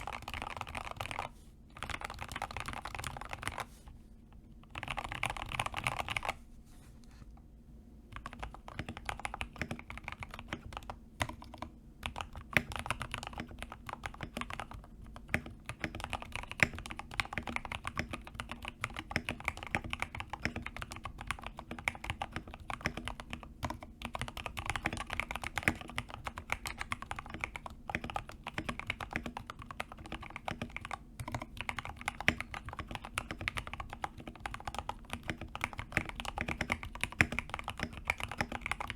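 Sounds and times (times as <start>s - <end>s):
typing on mechanical keyboard: 0.0s - 3.7s, 4.7s - 6.4s, 8.1s - 38.9s.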